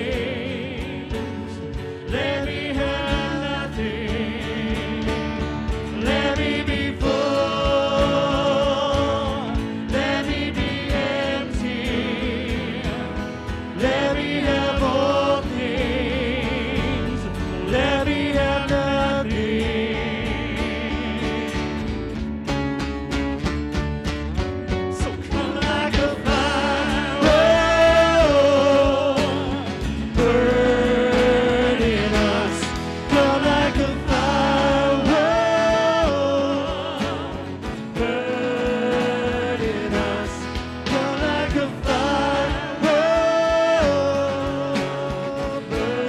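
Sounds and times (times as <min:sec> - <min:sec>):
voices singing: 0:00.0 - 0:22.3, 0:24.8 - 0:46.0
band playing worship song: 0:00.0 - 0:46.0.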